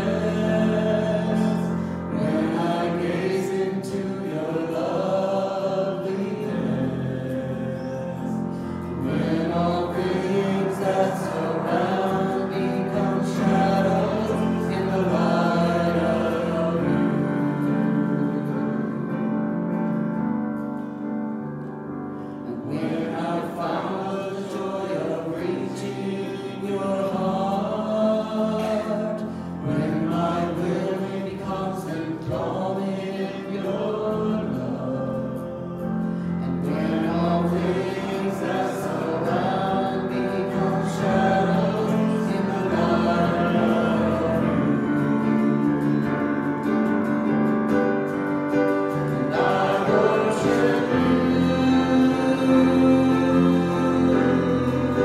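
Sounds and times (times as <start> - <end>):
choir singing gospel song: 0.0 - 21.2, 22.2 - 55.0.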